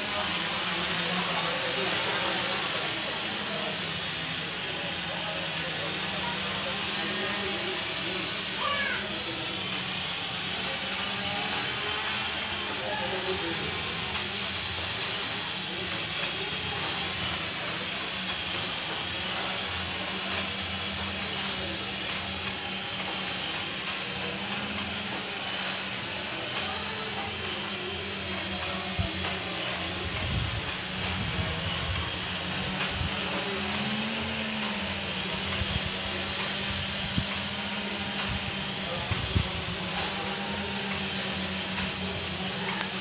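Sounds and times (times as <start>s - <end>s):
drone buzzing whine: 0.0s - 43.0s.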